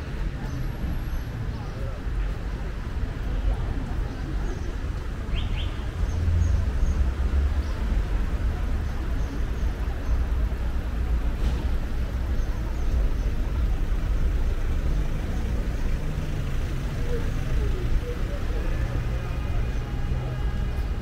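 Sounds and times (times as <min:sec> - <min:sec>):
traffic rumble of passing cars: 0:00.0 - 0:21.0.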